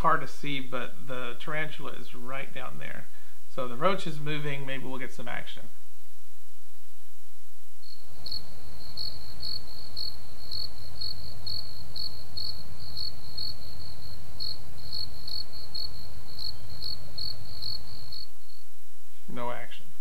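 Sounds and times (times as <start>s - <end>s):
cricket chirping: 0.0s - 6.0s, 7.6s - 20.0s
low background hiss: 0.0s - 20.0s.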